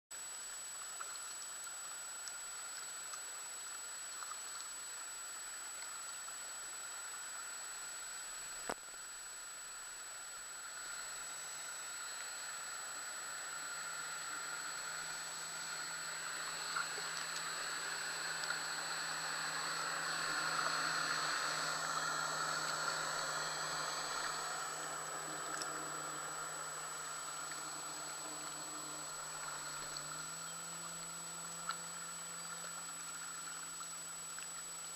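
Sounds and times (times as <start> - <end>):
motorboat engine drone and hiss: 0.2 - 34.9.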